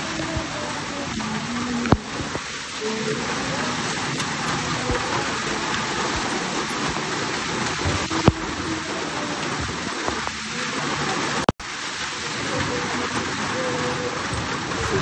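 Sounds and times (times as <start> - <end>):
hailstones ticking: 0.0 - 15.0
heavy rain on paving: 0.0 - 15.0.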